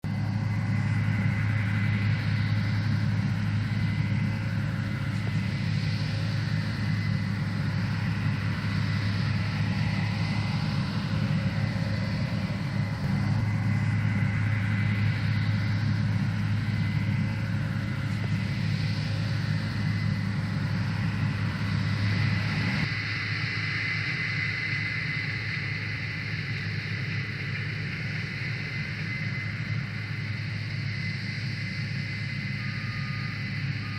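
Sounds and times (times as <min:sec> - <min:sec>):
combine harvester engine drone: 0:00.0 - 0:33.9
high machine whine: 0:00.0 - 0:33.9.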